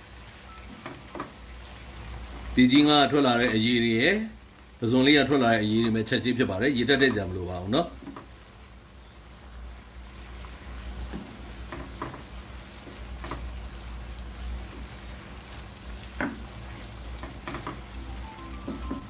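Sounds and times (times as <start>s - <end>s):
seafood sizzling in a pan: 0.0s - 19.0s.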